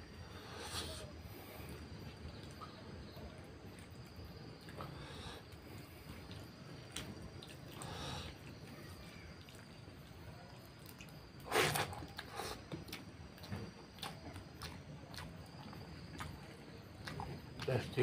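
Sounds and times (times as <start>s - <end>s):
chewing: 0.6s - 18.0s.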